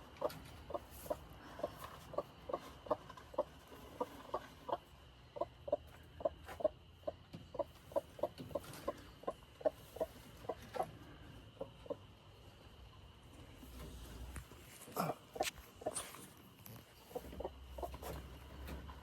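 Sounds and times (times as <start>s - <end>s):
hen clucking: 0.0s - 12.8s, 13.8s - 19.0s.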